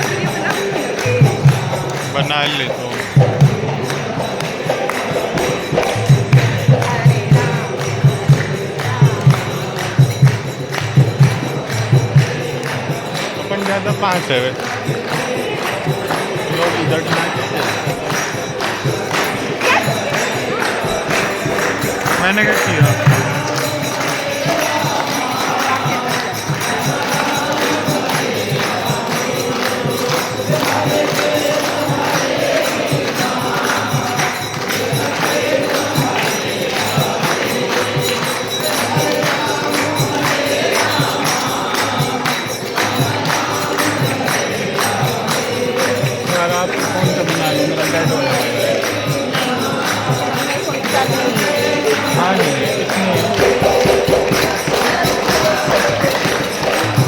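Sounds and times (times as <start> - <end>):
jingling hand percussion: 0.0 - 57.0
voices chanting together: 0.0 - 57.0.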